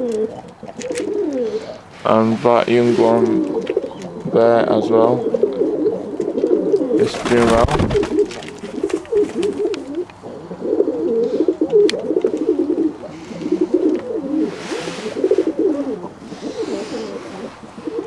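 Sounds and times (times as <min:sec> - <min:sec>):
doves cooing: 0:00.0 - 0:18.0.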